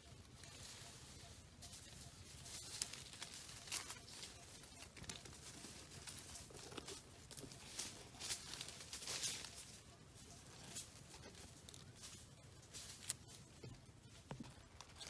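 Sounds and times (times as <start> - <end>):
dry leaves rustling: 0.0 - 15.0.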